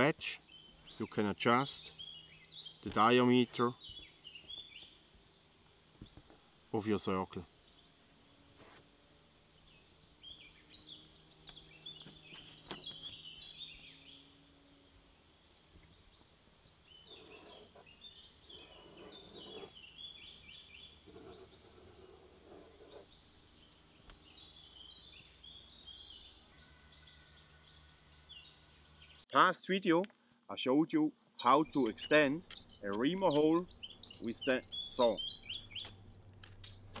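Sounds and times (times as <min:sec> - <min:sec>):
small birds chirping and trilling: 0:00.0 - 0:29.2, 0:31.0 - 0:37.0.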